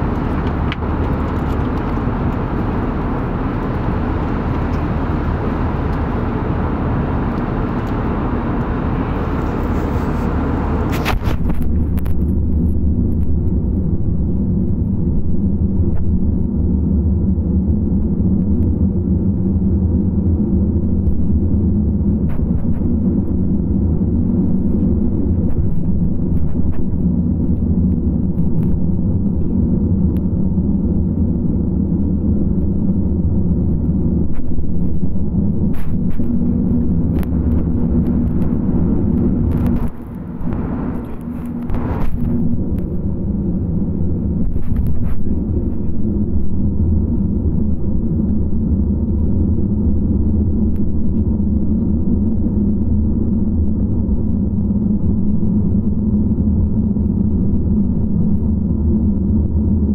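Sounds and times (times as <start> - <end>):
low engine drone: 0.0 - 59.9
rush of air in cabin: 0.0 - 59.9.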